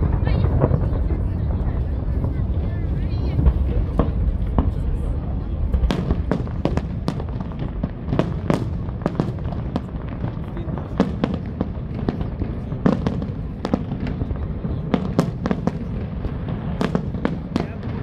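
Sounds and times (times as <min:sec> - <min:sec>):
fireworks bangs and crackling pops: 0:00.0 - 0:18.0
steady low rumble: 0:00.0 - 0:18.0.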